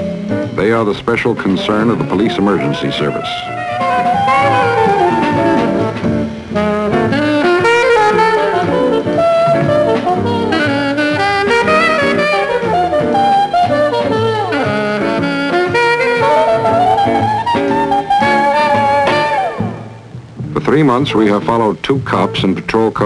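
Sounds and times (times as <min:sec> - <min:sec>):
jazz saxophone and brass: 0:01.3 - 0:20.0.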